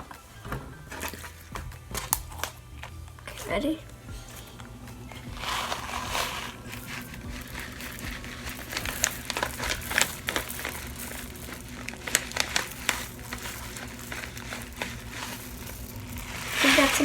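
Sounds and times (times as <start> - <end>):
plastic bag crinkling: 0.9 - 17.0
beads ticking as they fall: 1.0 - 17.0.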